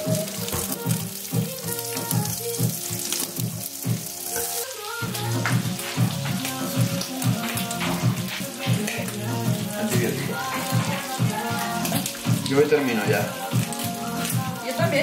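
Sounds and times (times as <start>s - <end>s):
background music with a beat: 0.0s - 15.0s
bacon sizzling in a frying pan: 0.0s - 15.0s.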